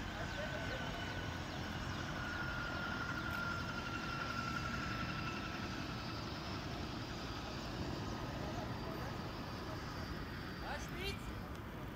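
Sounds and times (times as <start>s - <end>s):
helicopter turbine whine: 0.0s - 11.9s.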